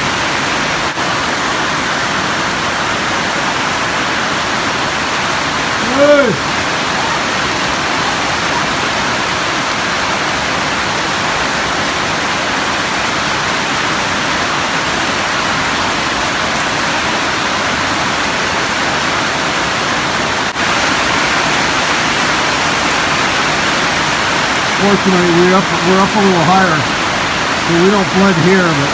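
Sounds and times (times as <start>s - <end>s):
heavy rain: 0.0s - 28.9s.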